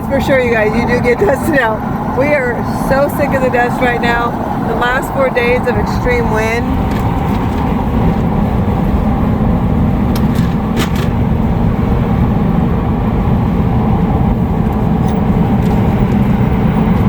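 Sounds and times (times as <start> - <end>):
vehicle engine and tyre rumble: 0.0 - 17.0.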